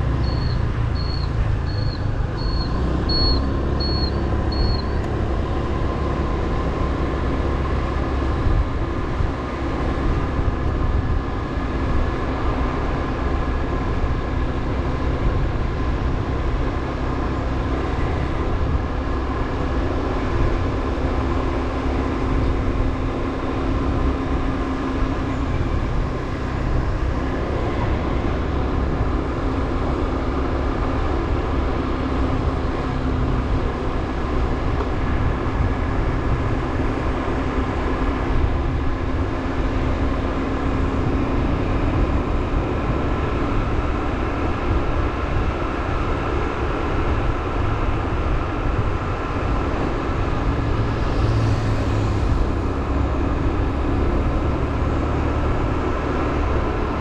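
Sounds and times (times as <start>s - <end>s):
motorbike engine hum: 0.0s - 57.0s
wind and road noise: 0.0s - 57.0s.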